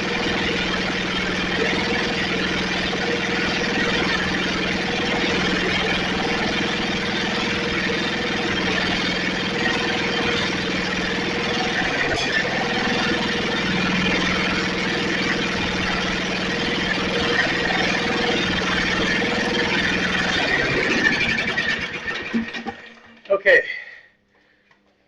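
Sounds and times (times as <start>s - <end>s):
riding mower engine idling: 0.0s - 23.6s.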